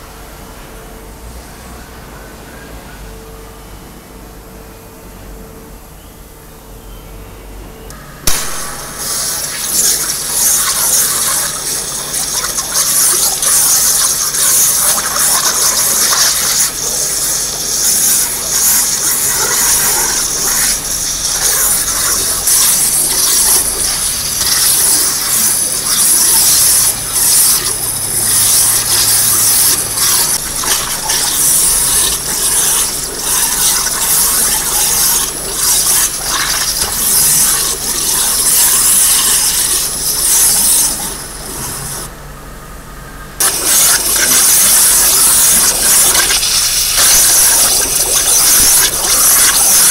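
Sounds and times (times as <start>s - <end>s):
waterjet cutter hissing: 7.9s - 42.1s, 43.4s - 49.9s.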